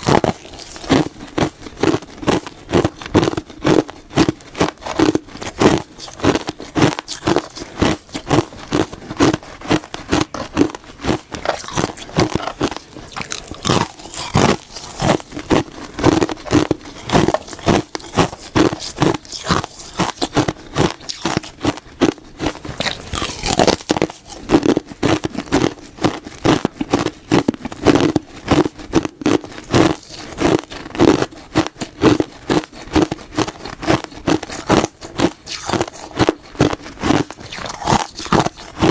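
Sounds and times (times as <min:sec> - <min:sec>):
biting and chewing crisp food: 0:00.0 - 0:38.9.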